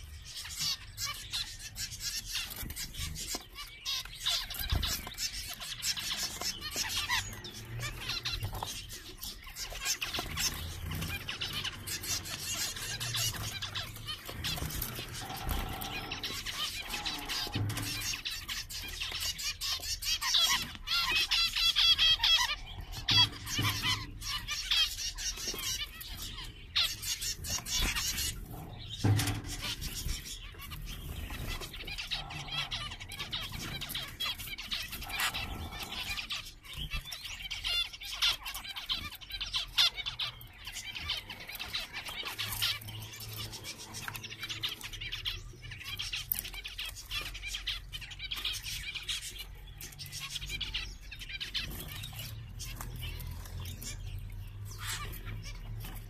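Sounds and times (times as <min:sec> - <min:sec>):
finches chirping: 0:00.0 - 0:56.0.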